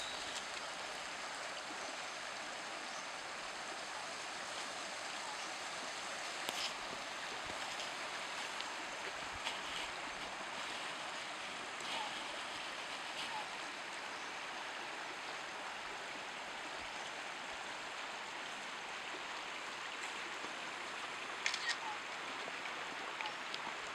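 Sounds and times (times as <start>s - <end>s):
stream rippling over stones: 0.0s - 23.9s.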